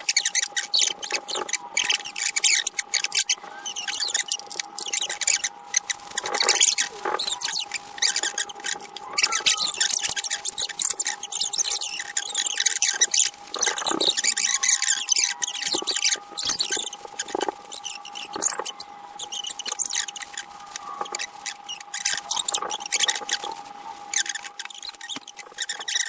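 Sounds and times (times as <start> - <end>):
faint steady hum: 0.0 - 26.0
small squeaks: 0.0 - 26.0.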